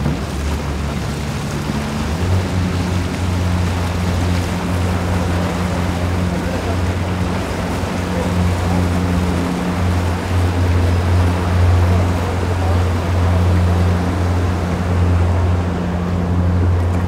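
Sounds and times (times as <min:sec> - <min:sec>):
boat engine idling: 0:00.0 - 0:17.0
wind: 0:00.0 - 0:17.0.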